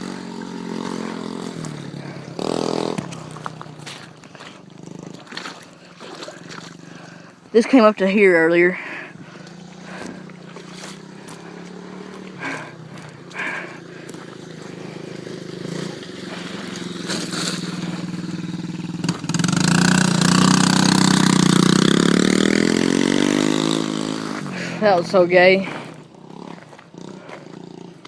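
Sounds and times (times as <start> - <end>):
dirt bike engine: 0.0 - 28.0.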